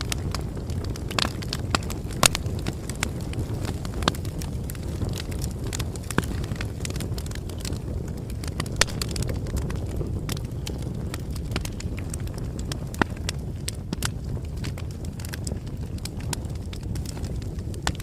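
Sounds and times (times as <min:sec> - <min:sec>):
flames rumbling: 0:00.0 - 0:18.0
wood crackling and popping: 0:00.0 - 0:18.0.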